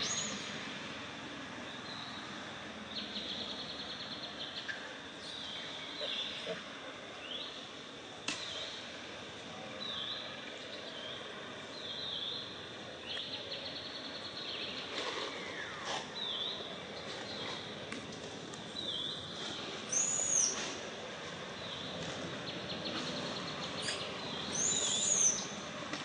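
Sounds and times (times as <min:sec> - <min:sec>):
steady forest hiss: 0:00.0 - 0:26.0.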